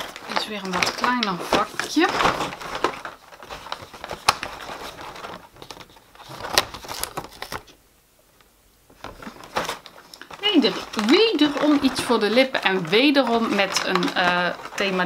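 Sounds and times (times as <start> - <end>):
cardboard crinkling and tearing: 0.0 - 7.8, 8.9 - 15.0.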